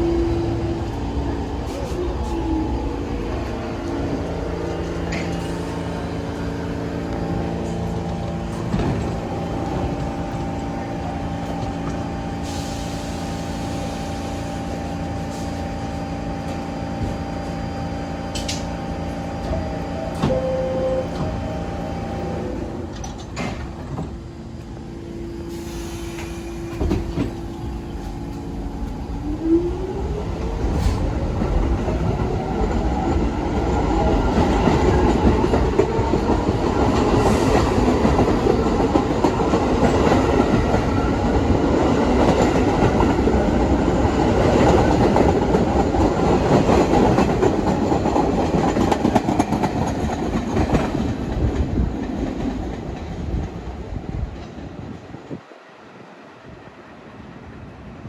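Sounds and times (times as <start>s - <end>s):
subway motor whine: 0.0s - 58.0s
train rumble: 0.0s - 58.0s.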